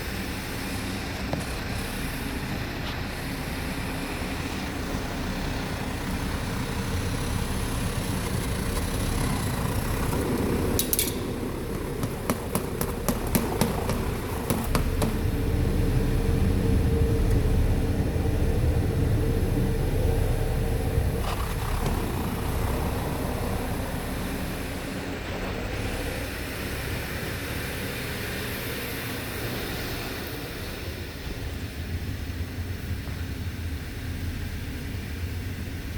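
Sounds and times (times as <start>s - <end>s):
car engine running: 0.0s - 35.9s.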